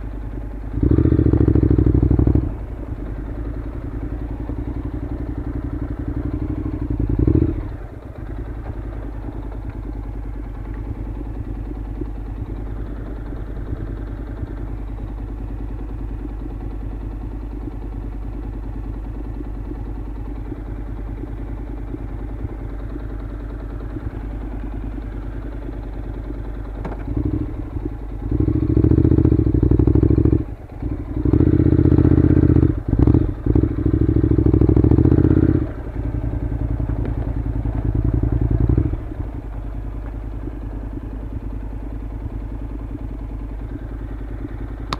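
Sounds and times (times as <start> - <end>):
motorcycle engine revving: 0.0 - 17.8, 20.2 - 44.9.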